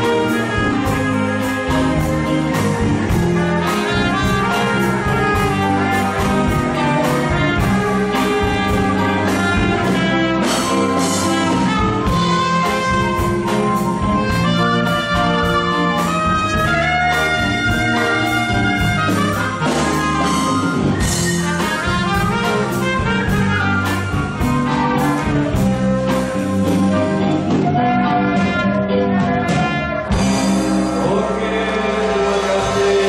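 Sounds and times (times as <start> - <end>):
live band with horn section: 0.0 - 33.0
trumpets playing the tune: 0.0 - 33.0.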